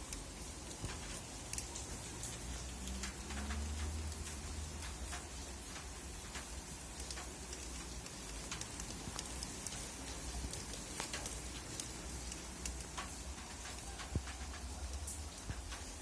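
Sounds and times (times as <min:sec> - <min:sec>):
low steady rain rumble: 0:00.0 - 0:16.0
raindrops ticking on a surface: 0:00.0 - 0:16.0.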